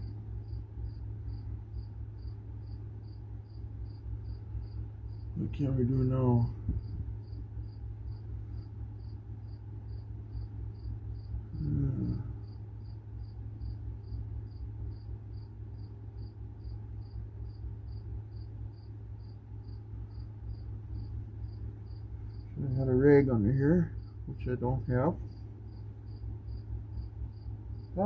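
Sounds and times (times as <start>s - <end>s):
cricket chirping: 0.0s - 28.0s
low steady hum: 0.0s - 28.0s.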